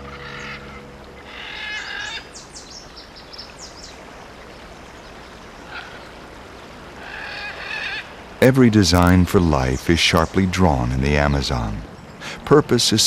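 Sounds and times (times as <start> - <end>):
birds calling: 0.0 - 13.0
outdoor hiss: 1.0 - 13.0.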